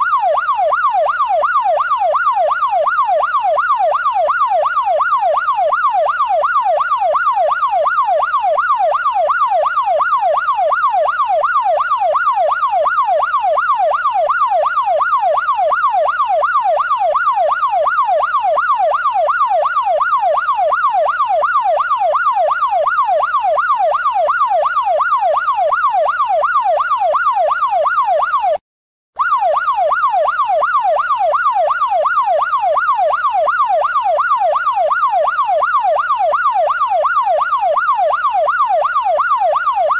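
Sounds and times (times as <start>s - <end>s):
police siren yelping: 0.0s - 28.6s, 29.2s - 39.9s.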